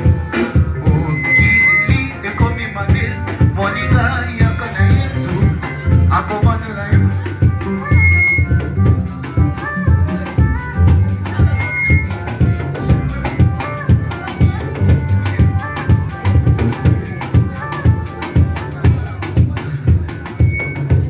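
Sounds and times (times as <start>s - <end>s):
upbeat band music: 0.0s - 21.0s.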